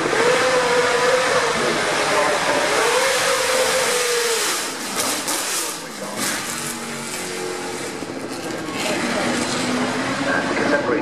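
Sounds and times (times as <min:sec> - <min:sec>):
racing car passing at speed: 0:00.0 - 0:11.0.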